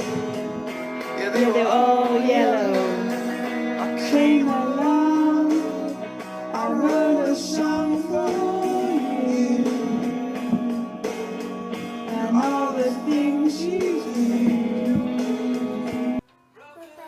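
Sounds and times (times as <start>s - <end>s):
acoustic guitar: 0.0s - 17.0s
person singing long notes: 0.0s - 17.0s.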